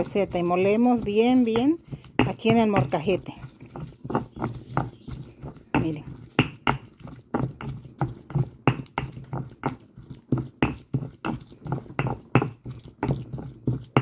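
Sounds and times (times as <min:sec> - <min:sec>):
stone pestle grinding in mortar: 0:00.0 - 0:14.0.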